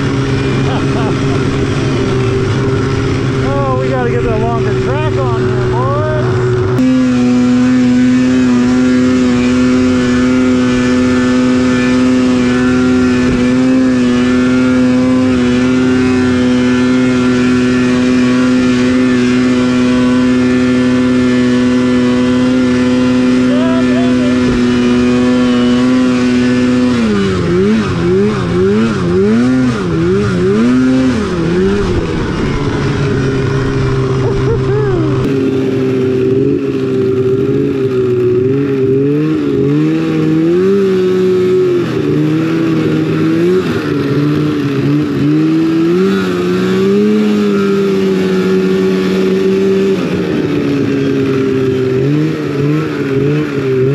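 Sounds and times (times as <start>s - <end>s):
snowmobile engine running hard: 0.0s - 53.9s.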